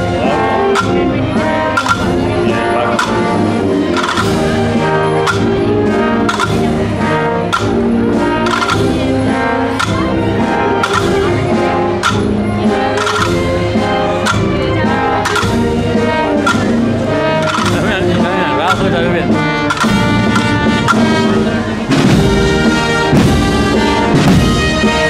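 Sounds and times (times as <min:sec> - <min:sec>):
brass marching band: 0:00.0 - 0:25.0
drum or cymbal beat: 0:00.0 - 0:25.0.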